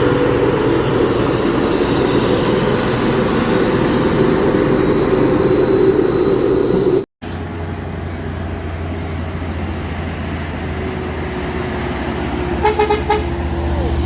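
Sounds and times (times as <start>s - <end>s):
low engine drone: 0.0s - 14.0s
truck diesel engine: 0.0s - 14.0s.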